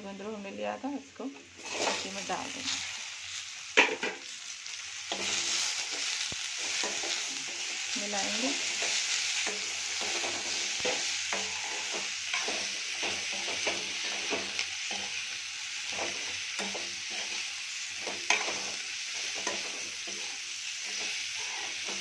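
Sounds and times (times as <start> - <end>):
vegetables sizzling in hot oil: 0.1 - 22.0
spatula scraping pan: 1.4 - 3.0, 5.1 - 22.0.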